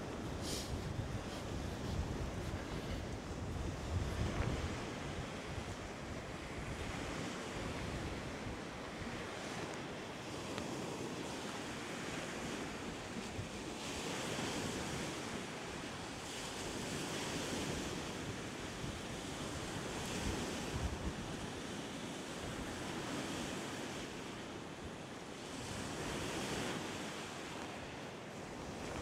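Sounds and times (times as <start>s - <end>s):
waves washing onto rocks: 0.0s - 29.0s
wind gusting on microphone: 0.0s - 29.0s.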